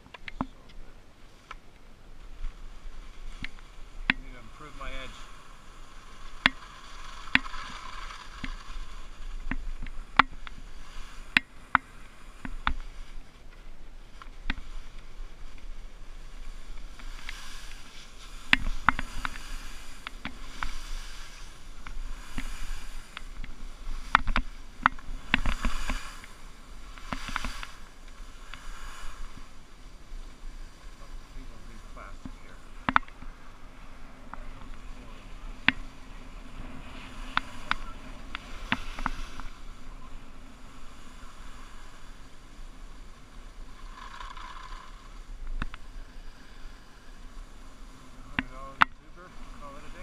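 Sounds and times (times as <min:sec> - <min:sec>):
skis sliding on snow: 0:00.6 - 0:50.0.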